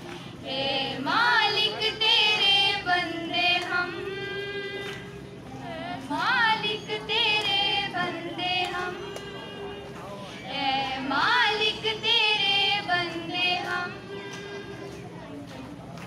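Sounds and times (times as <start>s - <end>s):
girls singing into a microphone: 0.4s - 9.8s, 10.5s - 14.7s.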